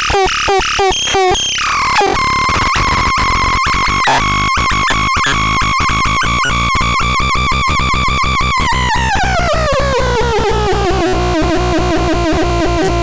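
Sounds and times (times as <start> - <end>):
synthesizer pulsing tone: 0.0 - 13.0.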